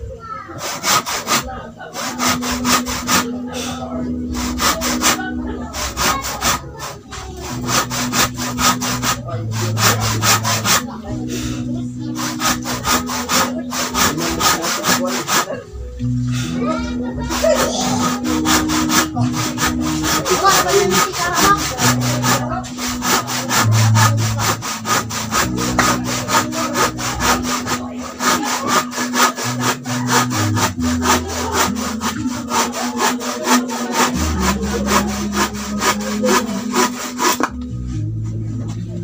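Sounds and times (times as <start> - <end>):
background music: 0.0 - 39.0
hand saw cutting wood: 0.5 - 37.6.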